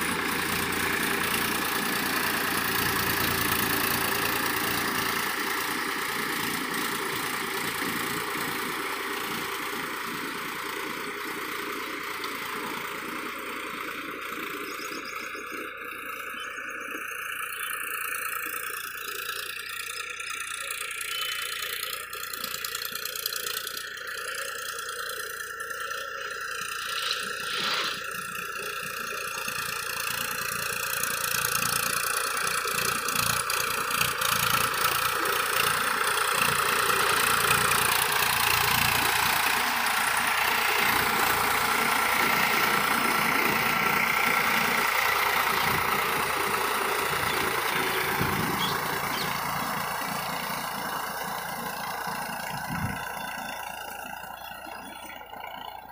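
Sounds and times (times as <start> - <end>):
diesel tractor running under load: 0.0 - 55.9.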